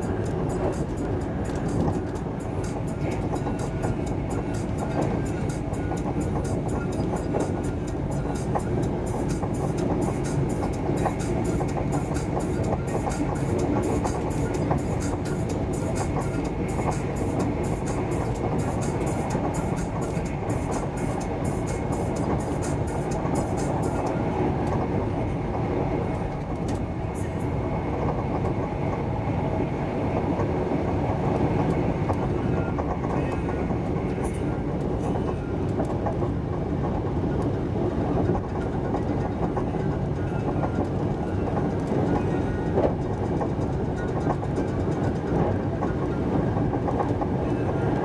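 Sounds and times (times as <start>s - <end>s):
train interior rumble: 0.0s - 48.0s.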